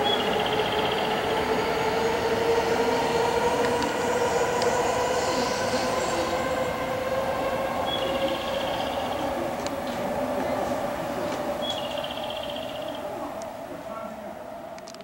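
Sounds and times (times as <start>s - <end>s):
diesel railcar engine rumbling: 0.0s - 15.0s.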